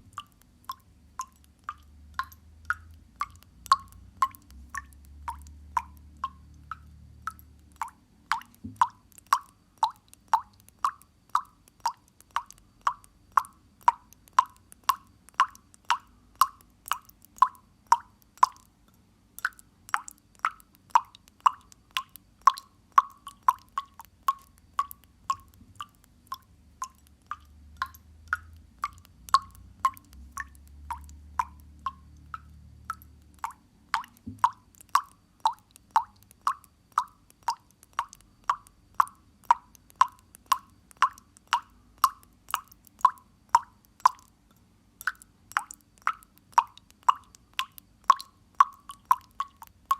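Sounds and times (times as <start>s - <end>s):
water dripping into water: 0.0s - 49.9s.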